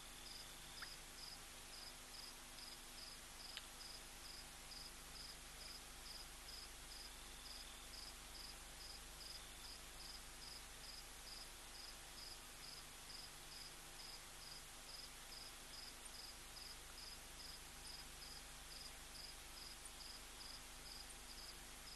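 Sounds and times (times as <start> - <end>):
low hiss: 0.0 - 21.9
cricket chirping: 0.2 - 21.9.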